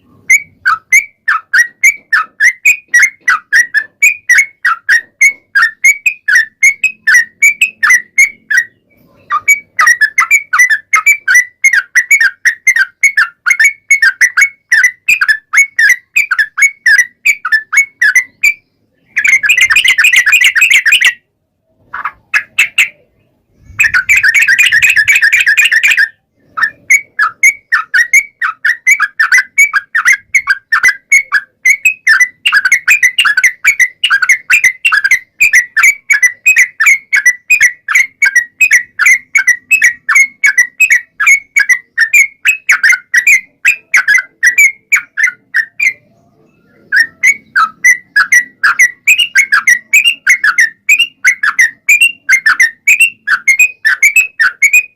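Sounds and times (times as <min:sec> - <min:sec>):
bulbul chattering song: 0:00.0 - 0:54.9.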